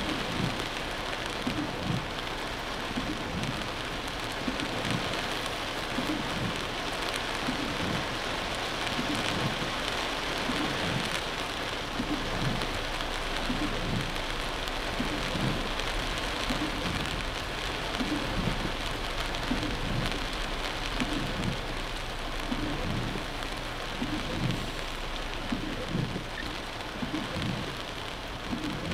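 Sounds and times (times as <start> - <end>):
heavy rain on car roof: 0.0 - 28.9
soft low beat: 0.1 - 0.8, 1.4 - 3.7, 4.3 - 8.3, 10.4 - 11.1, 11.9 - 28.9.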